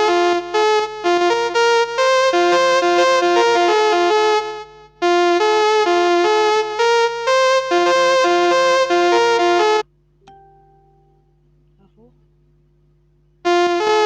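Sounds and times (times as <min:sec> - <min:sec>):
electronic keyboard melody: 0:00.0 - 0:11.2, 0:13.5 - 0:14.0.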